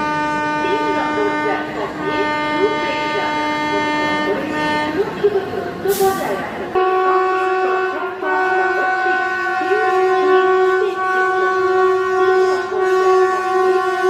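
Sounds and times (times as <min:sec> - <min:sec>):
locomotive air horn blast: 0:00.0 - 0:14.0.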